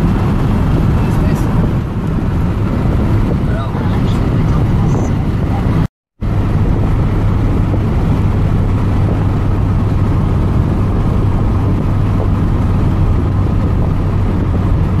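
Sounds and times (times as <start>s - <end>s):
car road and engine rumble: 0.0s - 15.0s
constant low hum: 0.0s - 15.0s.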